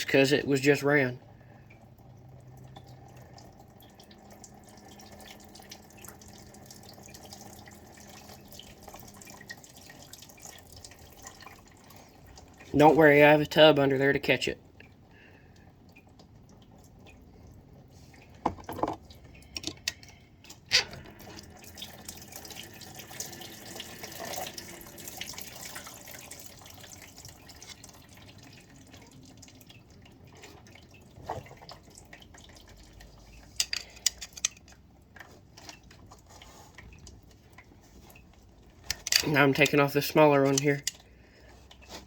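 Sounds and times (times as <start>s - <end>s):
coolant splashing into a tub: 0.0s - 42.0s.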